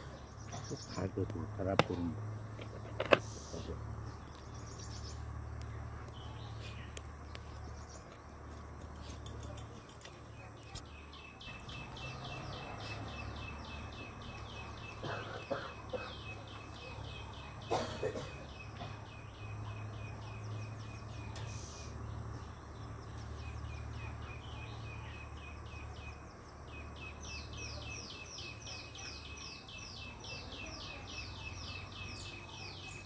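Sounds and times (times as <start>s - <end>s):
bird chirps: 0.0s - 33.0s.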